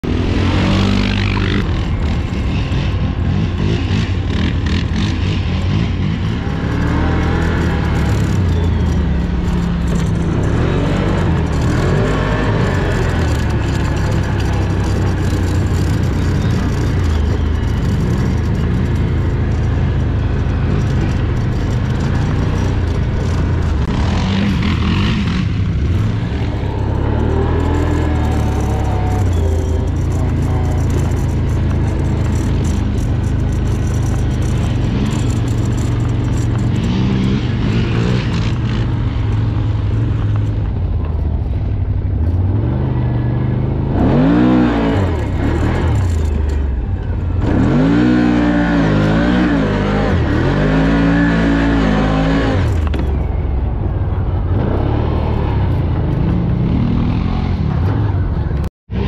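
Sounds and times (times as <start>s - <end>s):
quad engine revving: 0.0s - 40.8s, 42.2s - 53.3s.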